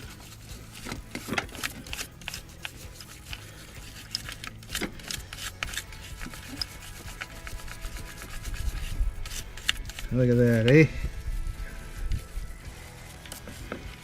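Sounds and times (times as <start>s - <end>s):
hand tool clicking and scraping: 0.0s - 14.0s.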